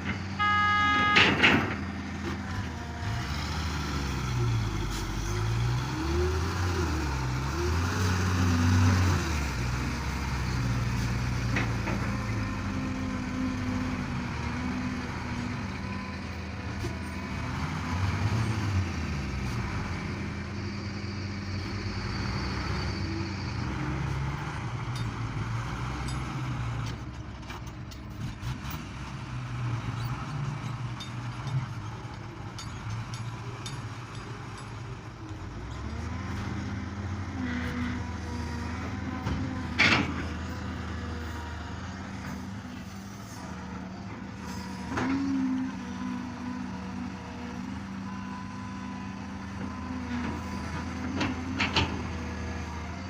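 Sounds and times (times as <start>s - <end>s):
diesel excavator engine running: 0.0s - 53.0s.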